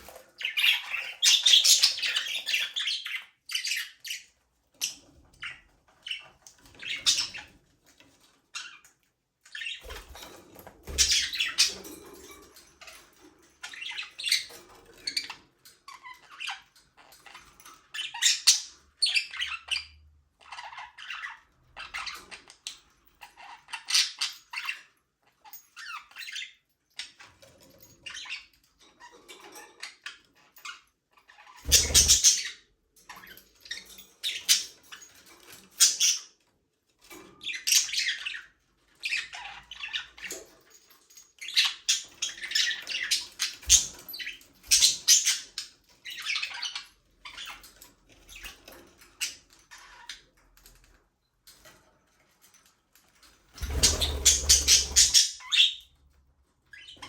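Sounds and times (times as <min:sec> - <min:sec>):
budgerigars chirping and chattering: 0:00.0 - 0:07.7, 0:09.5 - 0:36.3, 0:37.1 - 0:40.6, 0:41.4 - 0:50.4, 0:53.6 - 0:55.9, 0:56.6 - 0:57.0.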